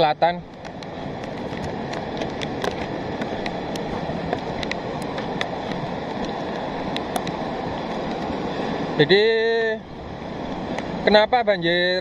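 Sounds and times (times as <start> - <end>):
muddy flood water rushing: 0.0 - 12.0.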